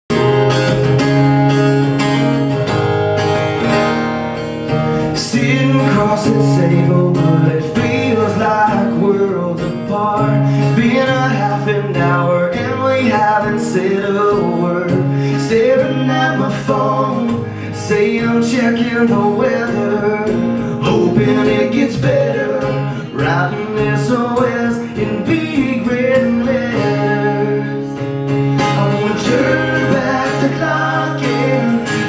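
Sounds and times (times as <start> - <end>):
acoustic guitar strumming: 0.1 - 32.0.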